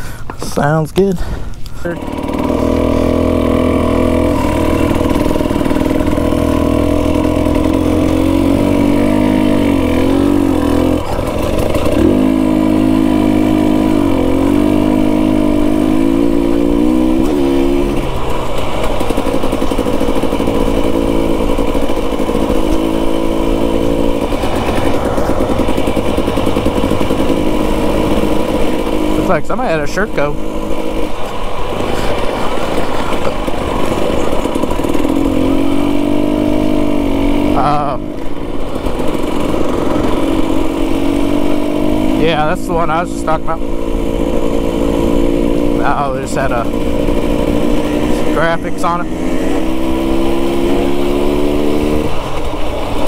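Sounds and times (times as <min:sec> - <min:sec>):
dirt bike engine revving: 0:01.7 - 0:53.0.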